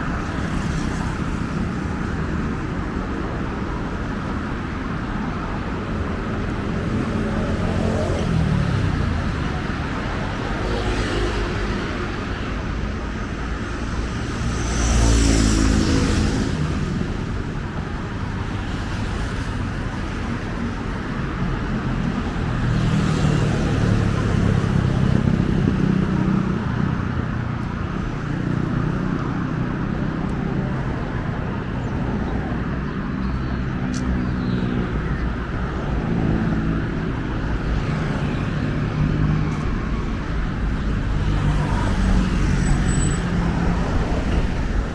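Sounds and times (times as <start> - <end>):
traffic hum: 0.0 - 44.9.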